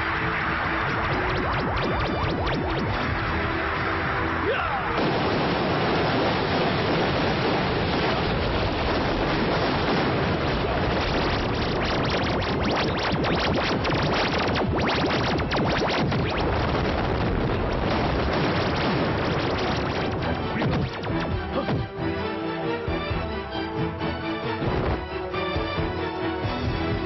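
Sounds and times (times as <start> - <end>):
explosion noise rushing: 0.0 - 21.9
film score music: 0.0 - 27.0.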